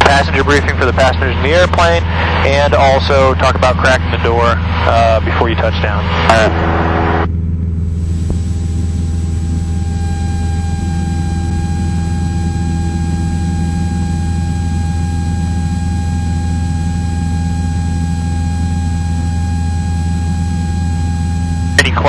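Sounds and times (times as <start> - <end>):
propeller plane engine drone: 0.0 - 22.0
thin steady whine: 0.0 - 22.0.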